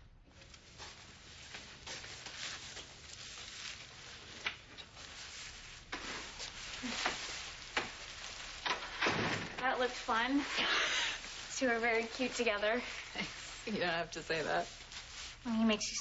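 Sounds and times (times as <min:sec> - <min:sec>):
gown rustling: 0:00.3 - 0:16.0.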